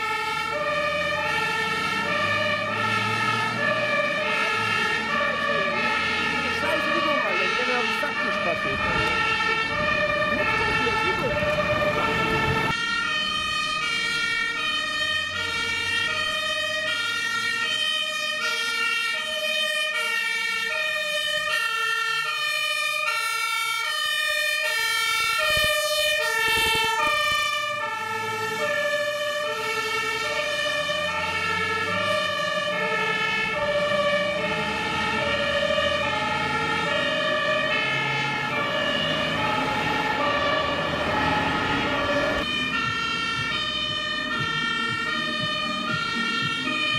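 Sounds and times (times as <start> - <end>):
diesel engines rumbling: 0.0 - 46.9
two-tone fire engine siren: 0.0 - 46.9.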